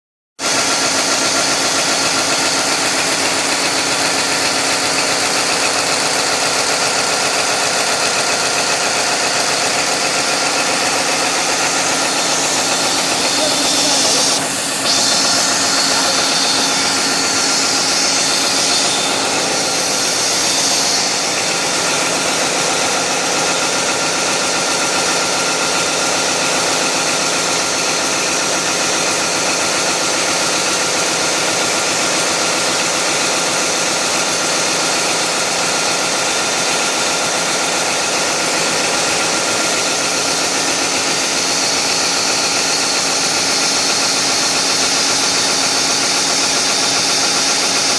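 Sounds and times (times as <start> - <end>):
large diesel engine running: 0.4 - 47.9.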